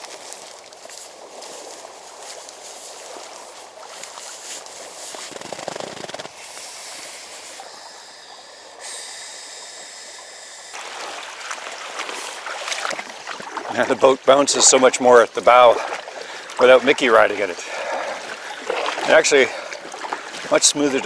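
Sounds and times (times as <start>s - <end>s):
small waves lapping on pebbles: 0.0s - 21.0s
wind: 0.0s - 21.0s.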